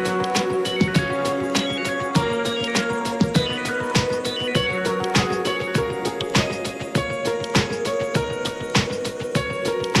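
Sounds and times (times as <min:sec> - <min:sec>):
upbeat music with drum beat: 0:00.0 - 0:10.0.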